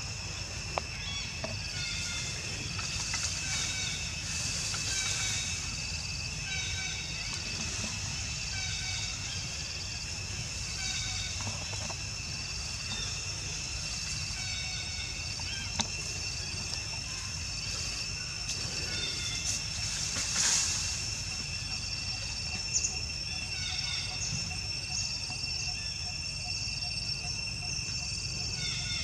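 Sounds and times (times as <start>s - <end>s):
high-pitched insect chirring: 0.1s - 29.0s.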